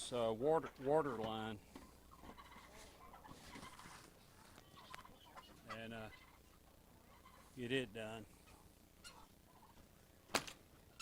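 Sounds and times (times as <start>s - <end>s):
faint poultry calls: 0.6s - 10.2s.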